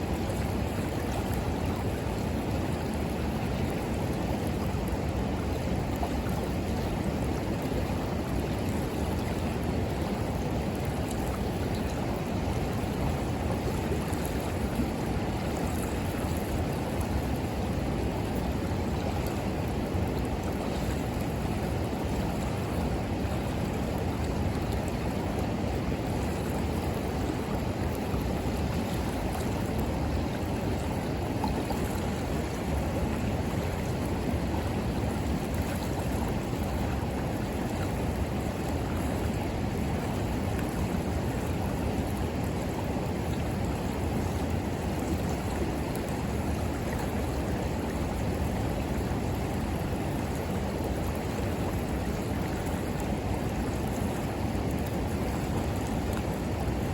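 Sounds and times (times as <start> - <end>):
river water flowing: 0.0 - 56.9.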